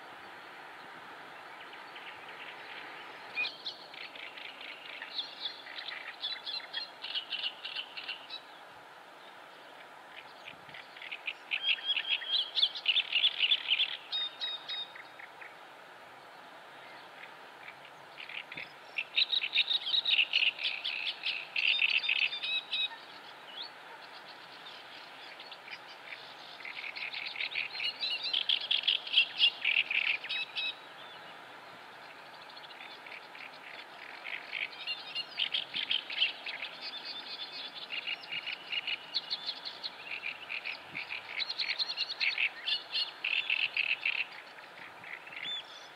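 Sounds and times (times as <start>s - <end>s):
faint outdoor background noise: 0.0s - 45.9s.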